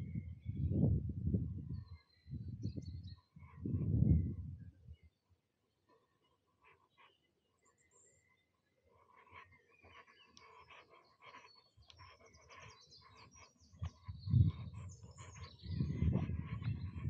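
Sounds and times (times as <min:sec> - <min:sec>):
birds chirping and singing: 0:01.5 - 0:05.2, 0:06.0 - 0:17.0.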